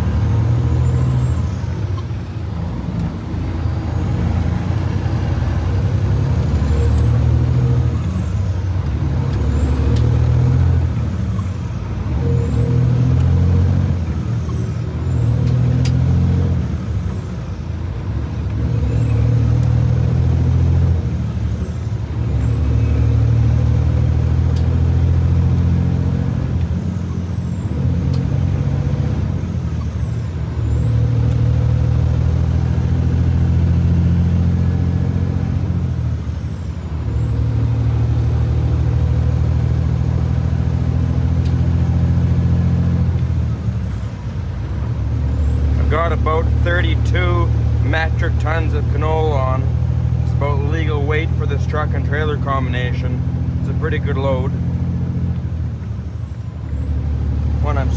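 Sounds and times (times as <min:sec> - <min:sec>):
truck diesel engine accelerating: 0:00.0 - 0:57.9.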